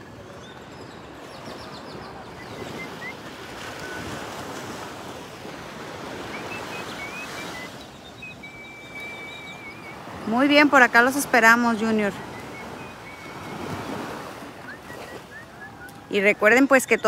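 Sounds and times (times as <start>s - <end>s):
waves washing on sandy beach: 0.0s - 17.0s.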